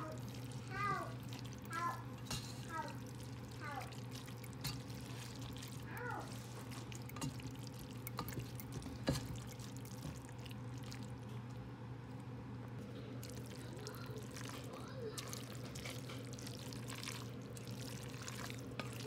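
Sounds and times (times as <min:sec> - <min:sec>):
wet squelching and sloshing: 0:00.0 - 0:11.7, 0:12.8 - 0:19.0.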